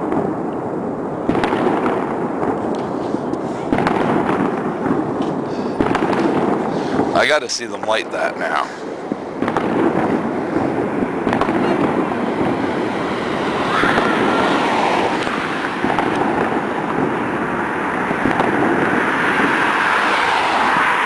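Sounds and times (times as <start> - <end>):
firecracker bangs: 0.0 - 19.9
fireworks crackling: 0.0 - 21.0.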